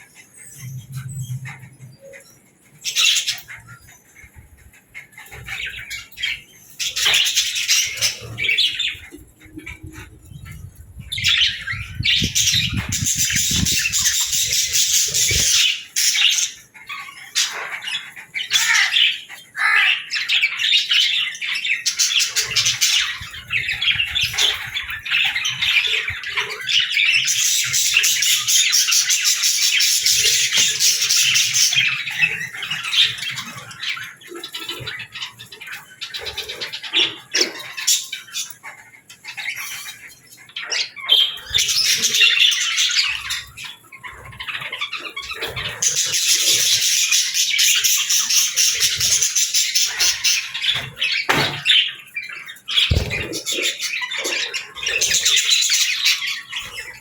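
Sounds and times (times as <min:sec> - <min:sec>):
budgerigars chattering: 0:04.8 - 0:57.0.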